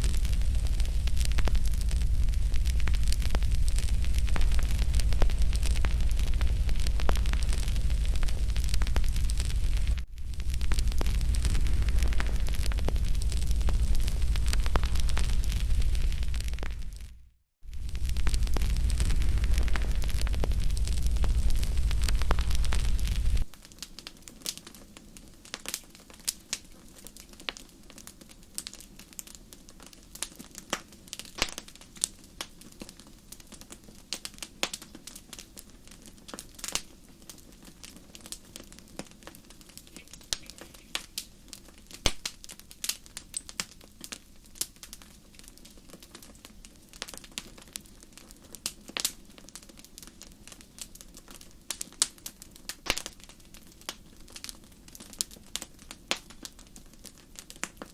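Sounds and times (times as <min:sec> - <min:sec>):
campfire crackling and popping: 0:00.0 - 0:57.9
low murmur of flames: 0:00.0 - 0:57.9.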